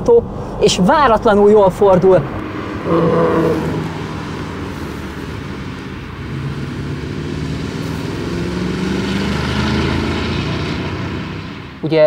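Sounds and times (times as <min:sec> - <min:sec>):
car engine driving past: 0:00.2 - 0:11.8.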